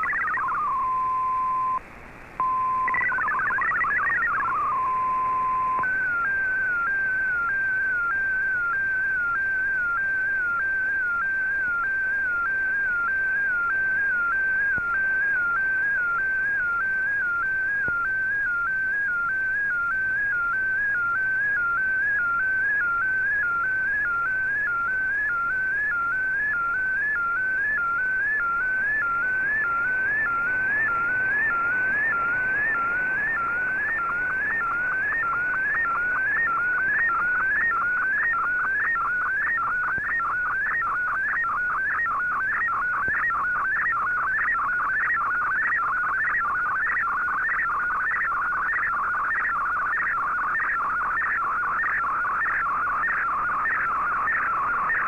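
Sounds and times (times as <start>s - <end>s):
sweeping whistling radio tone: 0.0s - 1.8s, 2.4s - 55.0s
radio hiss: 0.0s - 55.0s.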